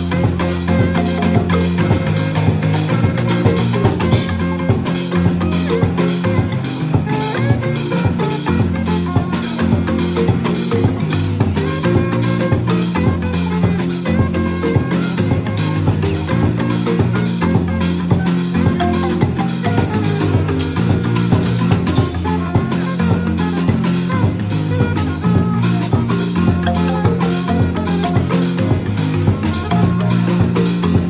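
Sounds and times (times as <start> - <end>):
low bass notes: 0.0 - 31.0
marimba band playing: 0.0 - 31.0.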